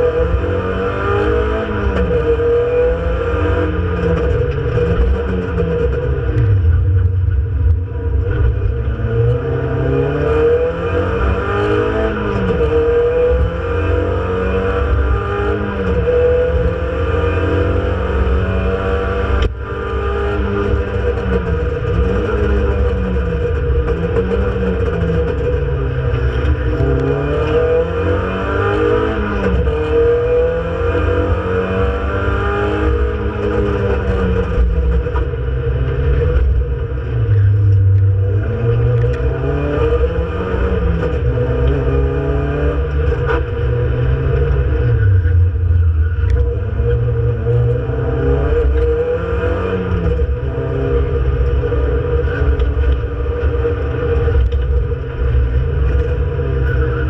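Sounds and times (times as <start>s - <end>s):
car engine revving: 0.0s - 57.0s
constant whine: 0.0s - 57.0s.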